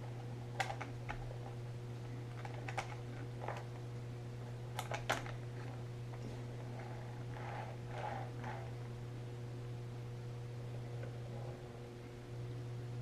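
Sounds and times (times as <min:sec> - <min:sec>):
transformer electrical hum: 0:00.0 - 0:13.0.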